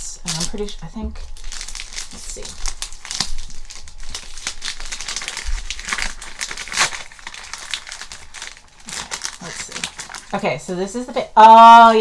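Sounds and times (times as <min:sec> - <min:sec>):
wrapping paper crinkling and tearing: 0:00.2 - 0:10.4.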